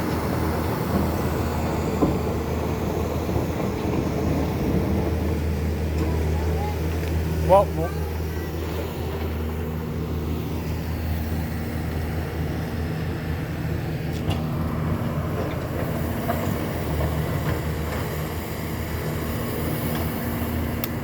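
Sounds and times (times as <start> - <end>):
heavy machinery engine droning: 0.0 - 21.0.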